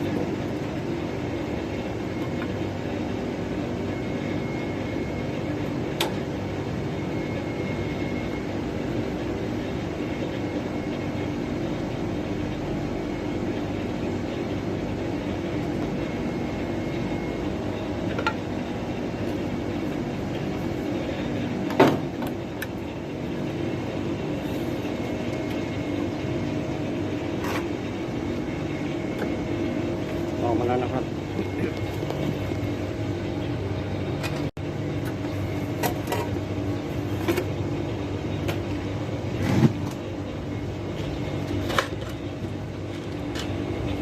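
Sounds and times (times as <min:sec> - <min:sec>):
machinery humming: 0:00.0 - 0:44.0.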